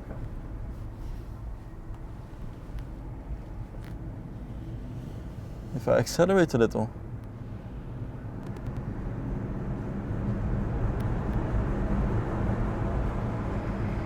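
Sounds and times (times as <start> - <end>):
car tyres rolling on road: 0.0 - 14.0.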